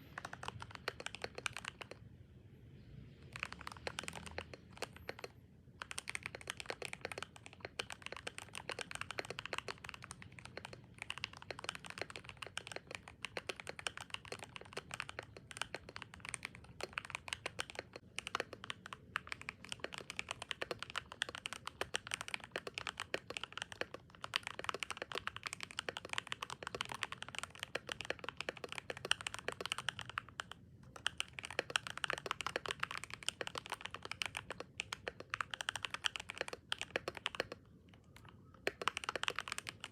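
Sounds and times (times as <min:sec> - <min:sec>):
mechanical keyboard typing: 0:00.0 - 0:02.0, 0:03.2 - 0:39.9.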